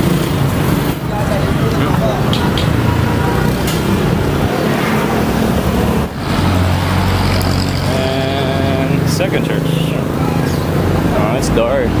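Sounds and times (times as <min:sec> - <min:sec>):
passing vehicle traffic: 0:00.0 - 0:12.0.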